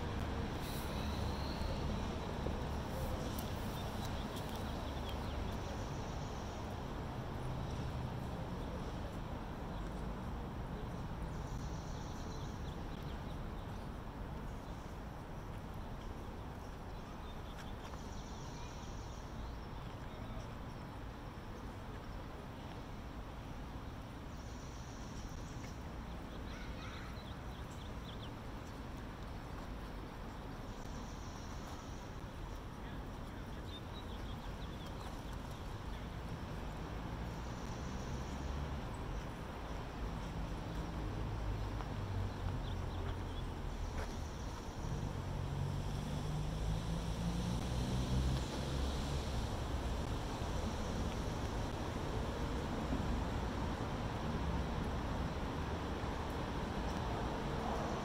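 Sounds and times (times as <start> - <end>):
low outdoor rumble: 0.0 - 17.5, 25.4 - 58.0.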